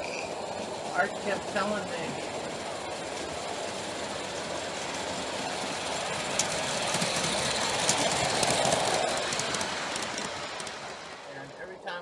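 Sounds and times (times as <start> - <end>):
model train rolling on track: 0.0 - 12.0
wheels clicking over rails: 0.0 - 12.0.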